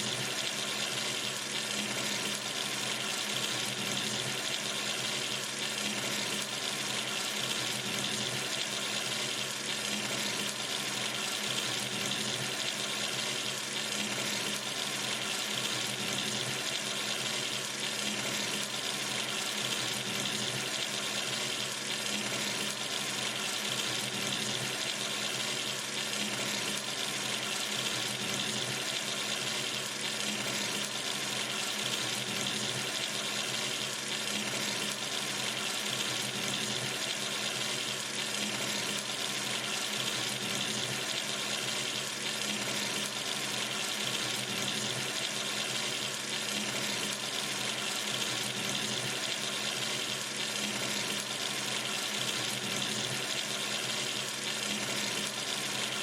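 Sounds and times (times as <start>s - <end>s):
tap water running into sink: 0.0s - 56.0s.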